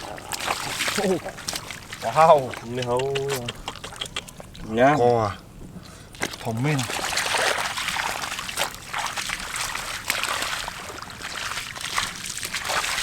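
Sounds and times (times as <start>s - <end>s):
water sloshing stirred by hand: 0.0s - 13.0s.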